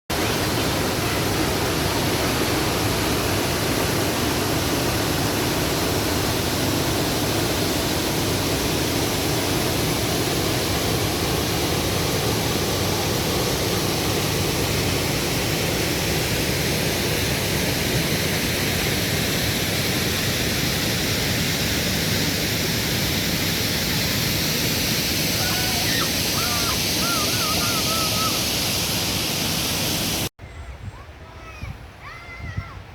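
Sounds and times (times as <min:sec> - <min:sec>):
waterfall rushing: 0:00.1 - 0:30.3.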